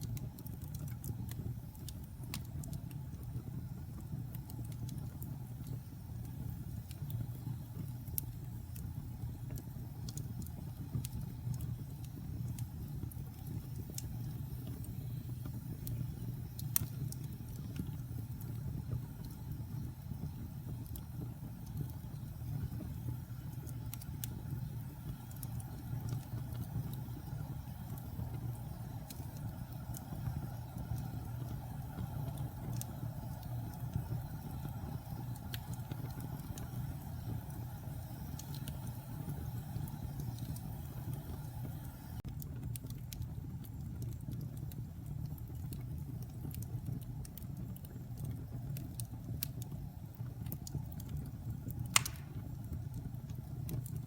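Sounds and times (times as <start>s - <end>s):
fire crackling and popping: 0.0s - 54.0s
wood fire roaring: 0.0s - 54.0s.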